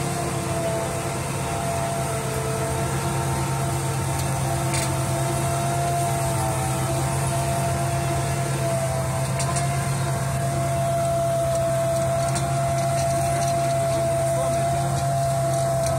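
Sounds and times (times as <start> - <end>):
tractor diesel engine under load: 0.0 - 15.9.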